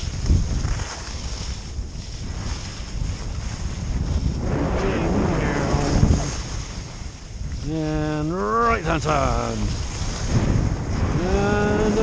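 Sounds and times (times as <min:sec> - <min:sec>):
skis hissing over snow: 0:00.0 - 0:10.3
wind buffeting microphone: 0:00.0 - 0:12.0.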